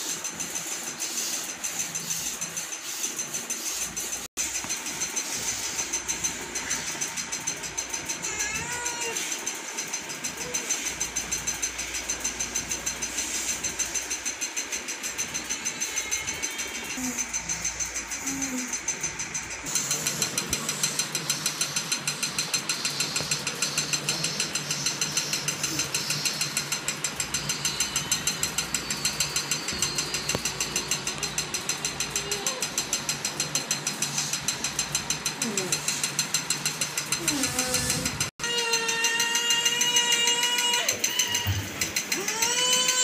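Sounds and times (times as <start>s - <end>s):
rapid clicking rattle: 0.0s - 43.0s.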